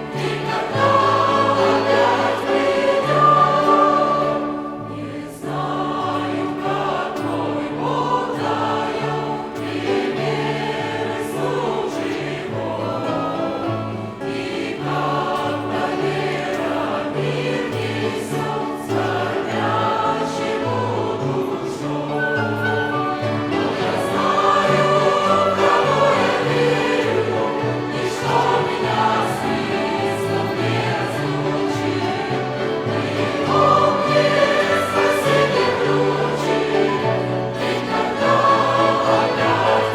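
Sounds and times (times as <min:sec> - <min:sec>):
choir singing a hymn: 0:00.0 - 0:39.9
violin ensemble: 0:00.0 - 0:39.9.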